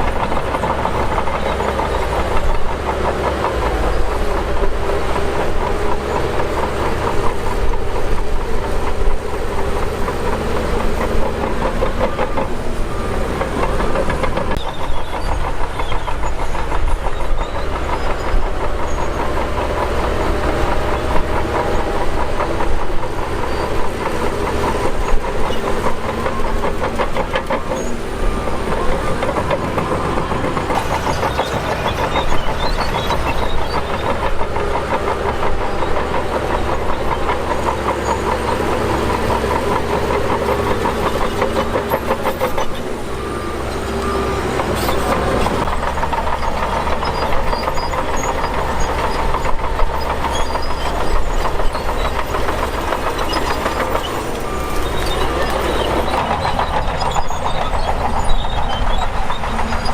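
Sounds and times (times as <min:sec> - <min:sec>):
bulldozer diesel engine under load: 0:00.0 - 0:59.9
metallic clatter of steel tracks: 0:00.0 - 0:59.9.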